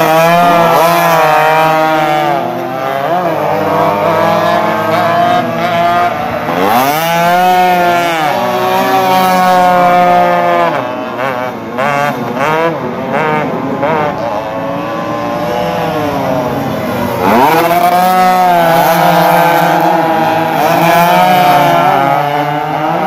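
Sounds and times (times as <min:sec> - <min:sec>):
racing motorcycles accelerating: 0:00.0 - 0:23.0.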